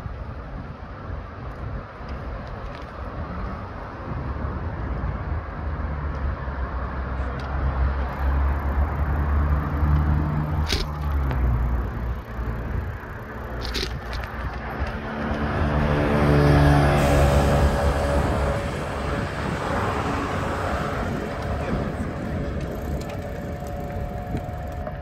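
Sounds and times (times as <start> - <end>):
wind buffeting microphone: 0.0 - 6.8, 7.7 - 25.0
road traffic rumble: 0.0 - 25.0.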